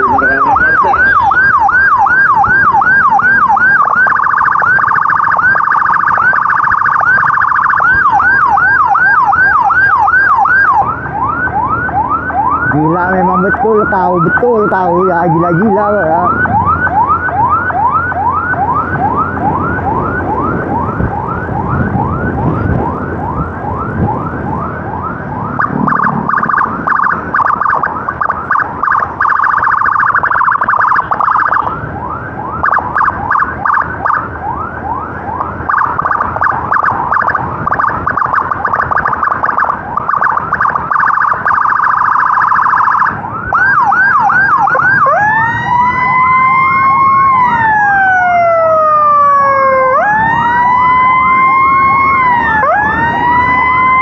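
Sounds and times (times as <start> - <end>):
electronic emergency siren: 0.0 - 54.0.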